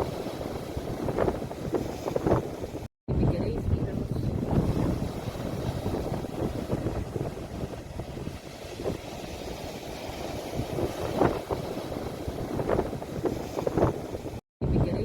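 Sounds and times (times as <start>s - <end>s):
sea waves washing: 0.0s - 14.4s
wind buffeting microphone: 0.0s - 15.0s.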